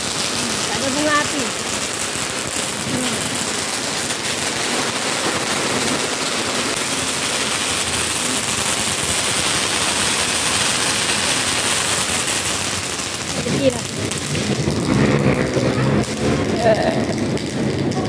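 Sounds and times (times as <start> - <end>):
firework fountain crackling hiss: 0.0 - 18.0.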